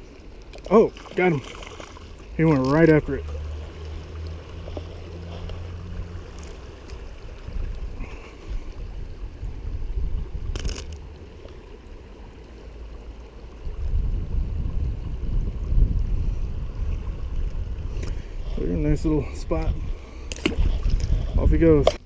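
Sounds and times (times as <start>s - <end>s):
wind rumbling on microphone: 2.3s - 12.4s, 13.3s - 22.0s.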